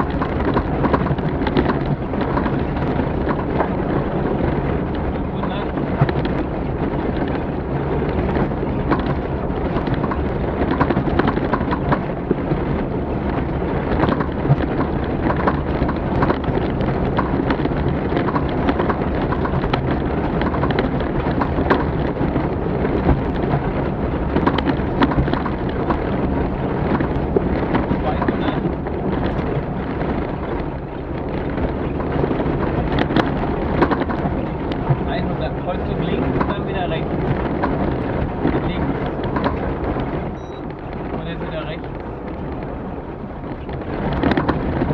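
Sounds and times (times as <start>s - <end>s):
knocks and rattles from bumps: 0.0s - 44.9s
vehicle engine rumble: 0.0s - 44.9s.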